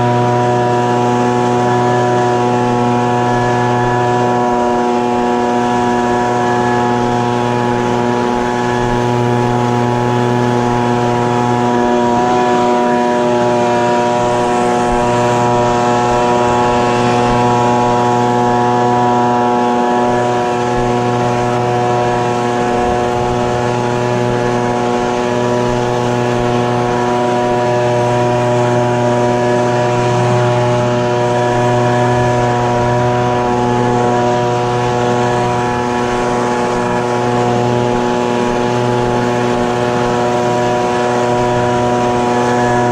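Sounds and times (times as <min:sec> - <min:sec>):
air rushing from blower tube: 0:00.0 - 0:42.9
leaf blower engine running: 0:00.0 - 0:42.9.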